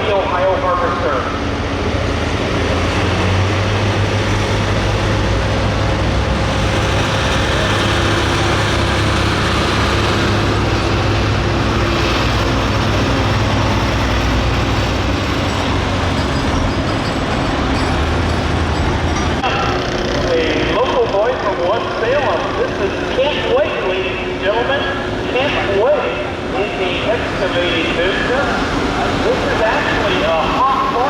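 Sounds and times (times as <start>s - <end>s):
diesel tractor engine running: 0.0s - 31.0s.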